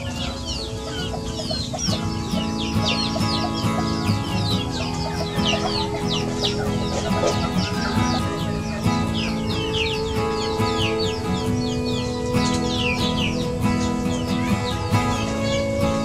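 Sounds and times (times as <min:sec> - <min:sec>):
background music: 0:00.0 - 0:16.0
chicks peeping: 0:00.0 - 0:16.0.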